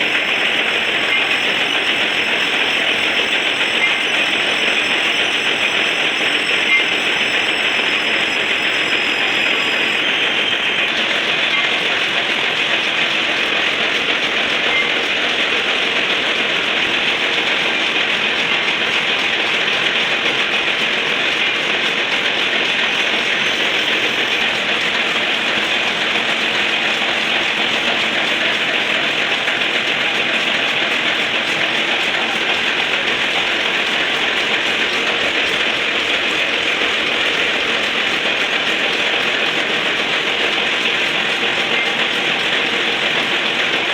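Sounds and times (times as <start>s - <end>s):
lathe running: 0.0s - 43.9s.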